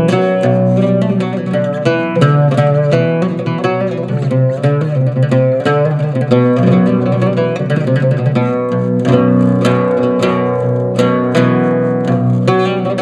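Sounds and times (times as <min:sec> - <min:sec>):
oud plucked melody: 0:00.0 - 0:13.0.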